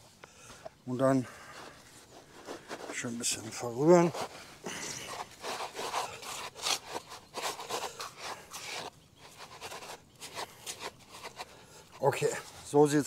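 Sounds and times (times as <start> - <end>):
hands kneading bait in a bucket: 1.5 - 13.0.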